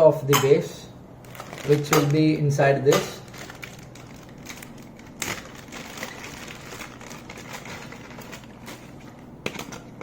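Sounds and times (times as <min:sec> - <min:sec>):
plastic parts rustling: 0:01.2 - 0:10.0.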